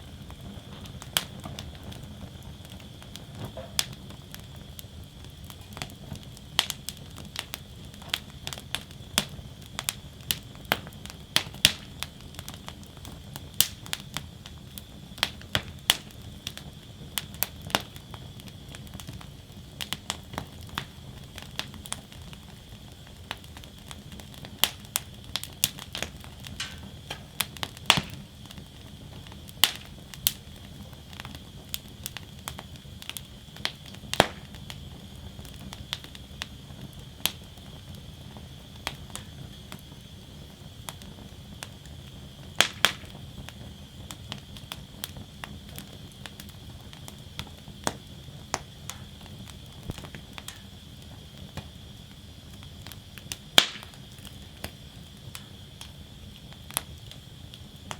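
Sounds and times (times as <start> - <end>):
flames rushing: 0.0 - 57.9
loud fire snaps: 0.0 - 57.9
wood fire crackling and popping: 0.0 - 57.9.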